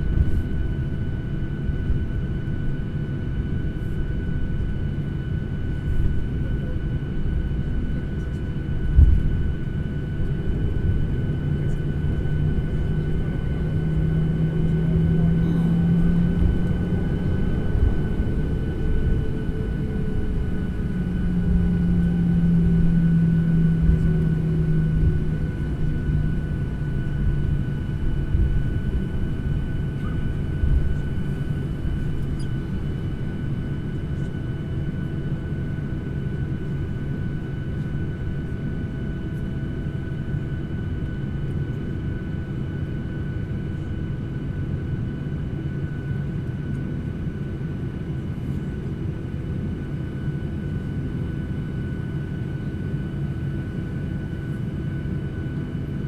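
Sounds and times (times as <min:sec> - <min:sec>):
airliner engine rumble: 0:00.0 - 0:56.0.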